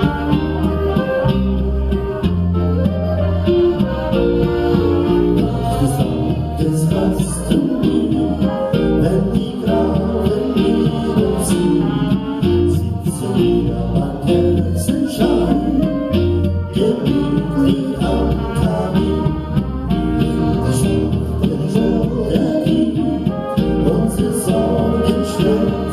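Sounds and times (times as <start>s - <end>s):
live folk band with singing: 0.0s - 25.9s.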